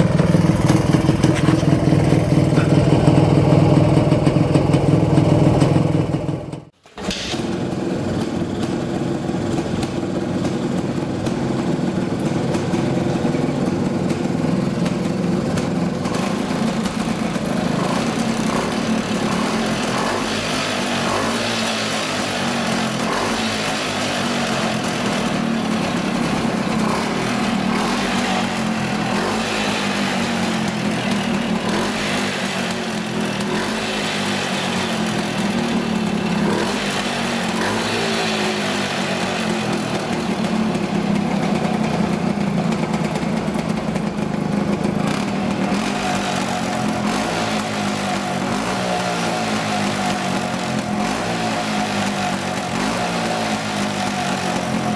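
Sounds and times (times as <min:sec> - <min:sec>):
motorcycle engine running at low revs: 0:00.0 - 0:54.9.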